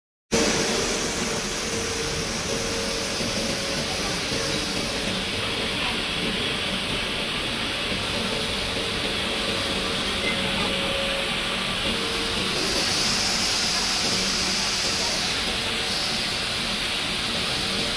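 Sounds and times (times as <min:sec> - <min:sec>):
machinery hiss and hum: 0:00.3 - 0:17.9.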